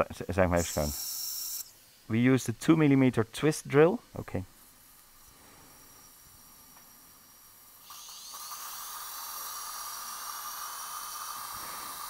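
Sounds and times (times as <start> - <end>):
dental drill whining: 0.2 - 3.1, 4.6 - 12.0.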